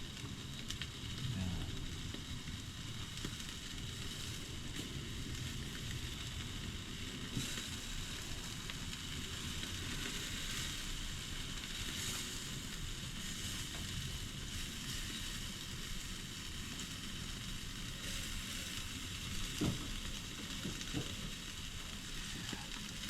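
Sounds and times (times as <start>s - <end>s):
chicken sizzling on a barbecue: 0.0s - 23.0s
fire crackles: 0.0s - 23.0s.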